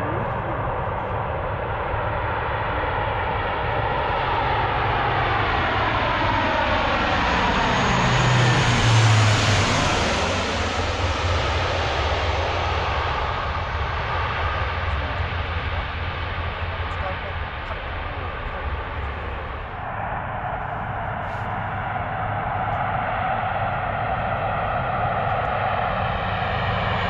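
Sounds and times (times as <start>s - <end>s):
turboprop aircraft flying past: 0.0s - 27.0s.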